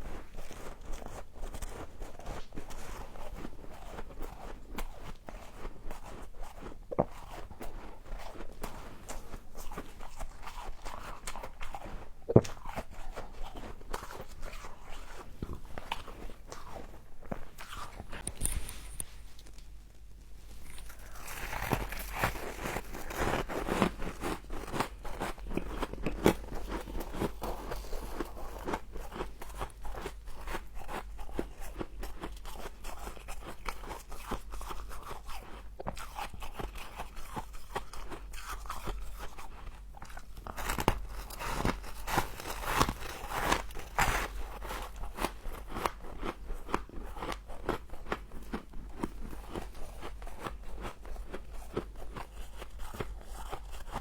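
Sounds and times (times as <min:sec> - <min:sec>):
crunching and chewing frost: 0:00.0 - 0:54.0.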